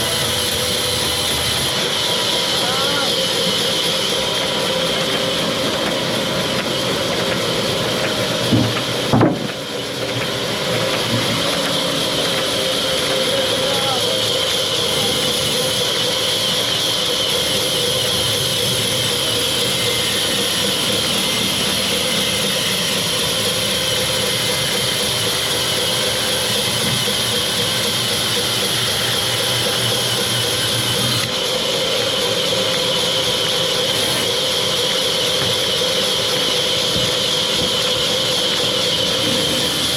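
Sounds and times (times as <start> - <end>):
high machine whine: 0.0 - 39.9
sawmill machinery drone: 0.0 - 39.9.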